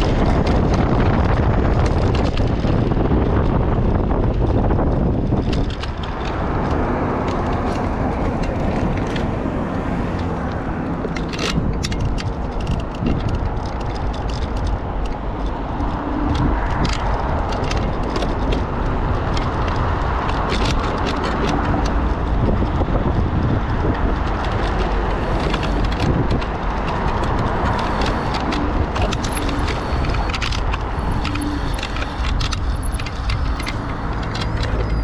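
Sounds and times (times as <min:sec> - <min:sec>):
off-road vehicle engine rumble: 0:00.0 - 0:35.0
sharp clicks and crackles: 0:00.0 - 0:35.0.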